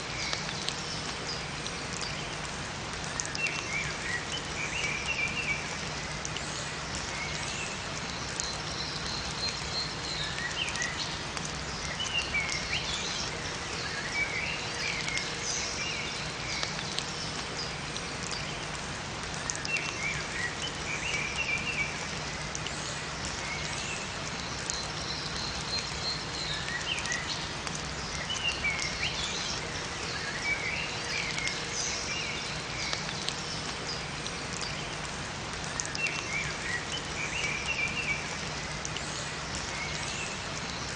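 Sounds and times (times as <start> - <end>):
songbirds chirping: 0.0 - 40.9
steady rain falling: 0.0 - 40.9.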